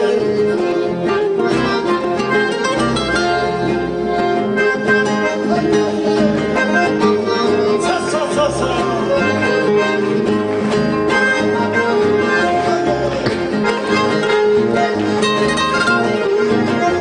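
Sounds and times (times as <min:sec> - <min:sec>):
accordion sustained notes: 0:00.0 - 0:17.0
plucked acoustic guitars: 0:00.0 - 0:17.0.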